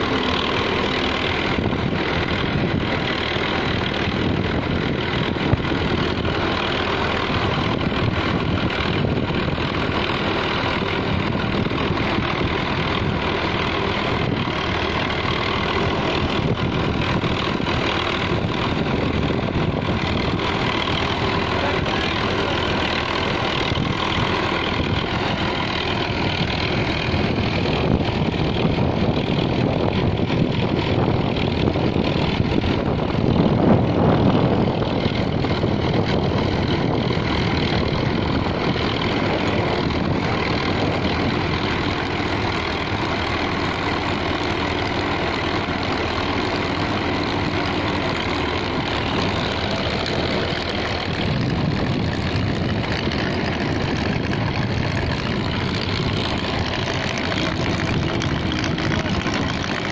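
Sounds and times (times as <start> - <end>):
digging machine churning: 0.0 - 59.9
tractor engine running under load: 0.0 - 59.9.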